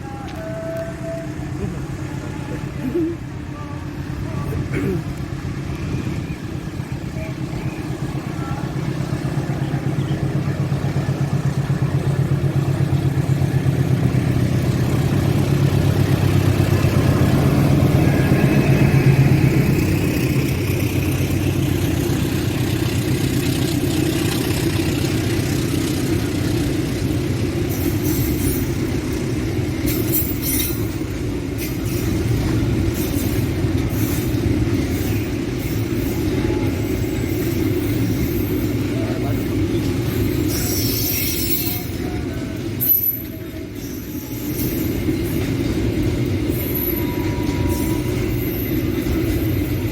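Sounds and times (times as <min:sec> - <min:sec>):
diesel locomotive engine rumble: 0:00.0 - 0:49.9
train wheels clicking on rail joints: 0:04.2 - 0:49.9.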